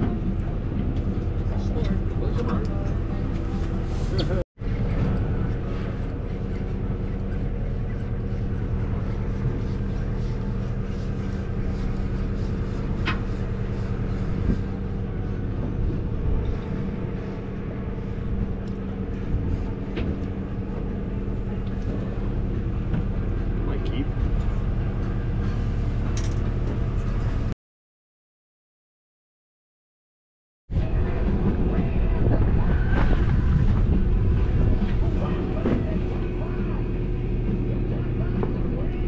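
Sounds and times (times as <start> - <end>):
boat engine droning: 0.0 - 27.5, 30.7 - 39.0.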